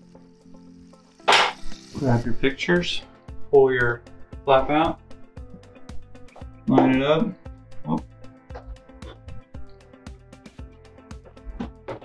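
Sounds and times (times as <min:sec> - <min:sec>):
music of sustained chords: 0:00.0 - 0:12.0.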